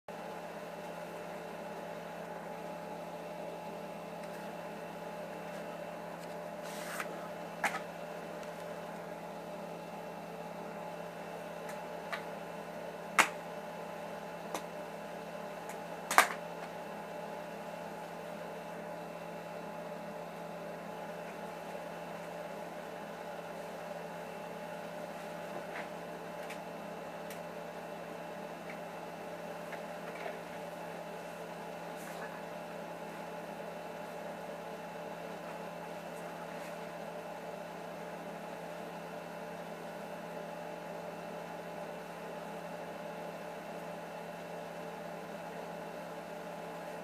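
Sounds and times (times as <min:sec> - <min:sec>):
steady electrical hum: 0:00.1 - 0:47.0.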